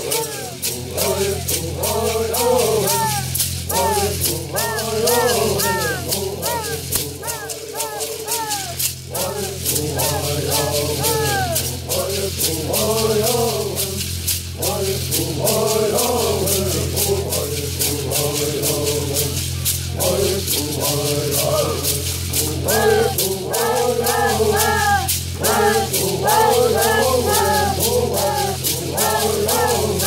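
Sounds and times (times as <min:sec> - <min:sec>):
gourd rattles shaken: 0:00.0 - 0:30.0
singers chanting in unison: 0:00.0 - 0:30.0.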